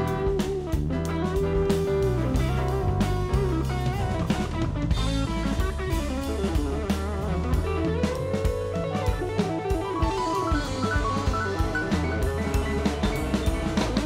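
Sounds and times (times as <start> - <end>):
drum kit: 0.0 - 14.0
electric bass: 0.0 - 14.0
electric guitar: 0.0 - 14.0
keyboard: 0.0 - 14.0.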